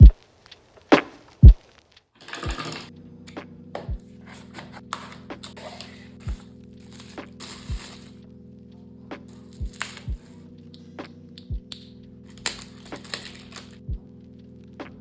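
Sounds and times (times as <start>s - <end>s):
held music chord: 2.9s - 15.0s.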